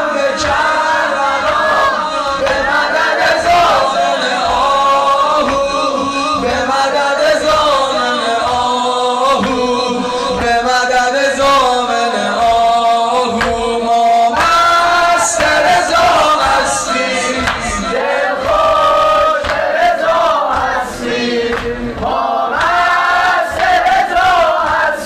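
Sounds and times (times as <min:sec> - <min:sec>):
men chanting a lament: 0:00.0 - 0:25.0.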